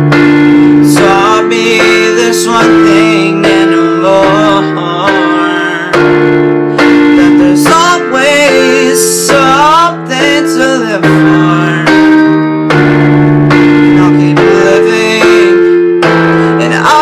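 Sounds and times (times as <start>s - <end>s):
held instrumental chords: 0.0s - 17.0s.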